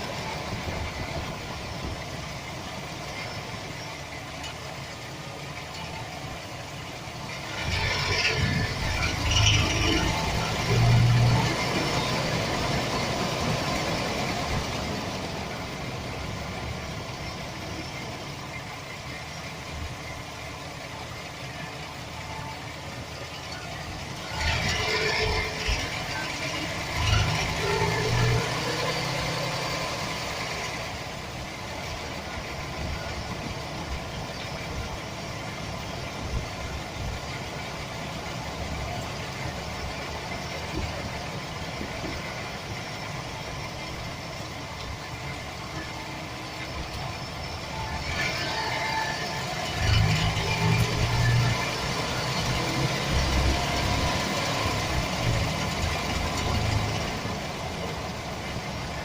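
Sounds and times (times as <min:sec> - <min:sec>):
engine idling: 0:00.0 - 0:59.0
engine rattle: 0:00.0 - 0:59.0.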